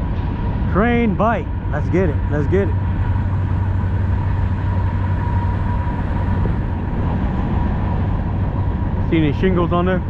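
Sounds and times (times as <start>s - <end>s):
freight train rumbling: 0.0s - 10.0s.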